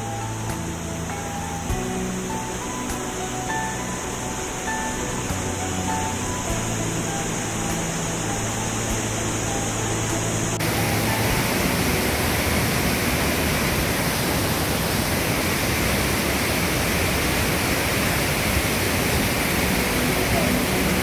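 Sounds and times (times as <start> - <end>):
music: 0.0 - 21.0
waterfall roaring: 0.0 - 21.0.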